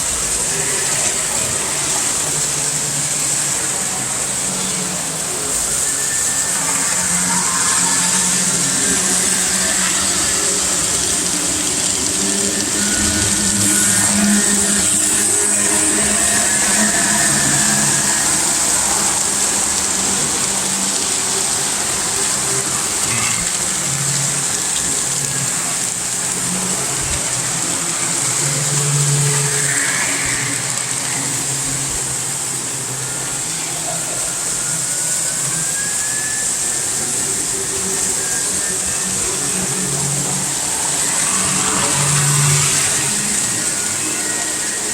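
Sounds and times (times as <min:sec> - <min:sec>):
model trains humming and rumbling: 0:00.0 - 0:44.9.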